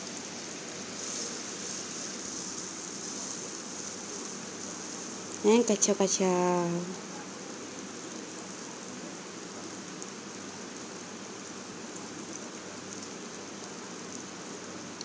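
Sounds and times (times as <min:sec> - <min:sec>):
spice paste sizzling in oil: 0:00.0 - 0:15.0.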